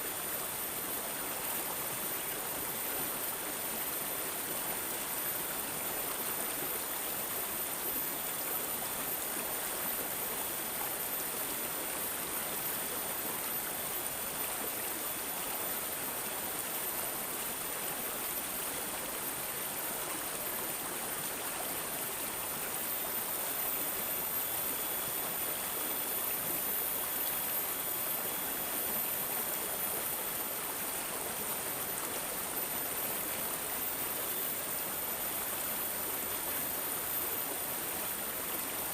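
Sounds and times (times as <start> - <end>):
running water babbling: 0.0 - 38.9.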